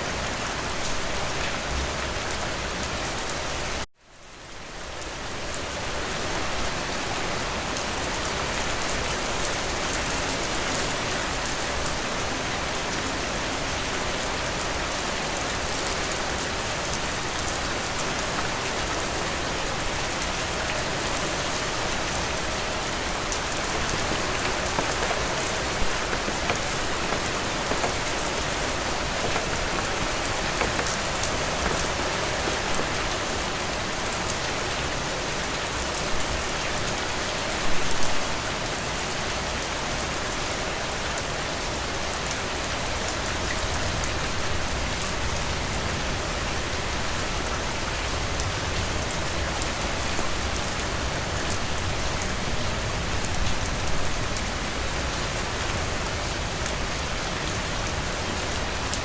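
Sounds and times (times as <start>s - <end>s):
heavy rain falling: 0.0s - 59.0s
raindrops ticking on a surface: 0.2s - 59.0s.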